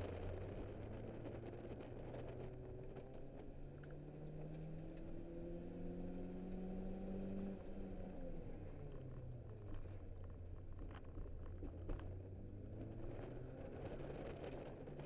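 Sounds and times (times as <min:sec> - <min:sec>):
car engine from inside cabin: 0:00.0 - 0:15.0.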